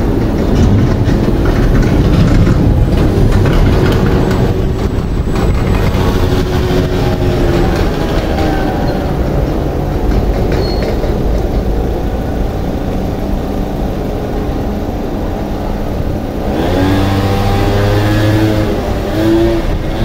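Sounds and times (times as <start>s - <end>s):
car engine accelerating: 0.0s - 20.0s
low rumble of traffic: 0.0s - 20.0s.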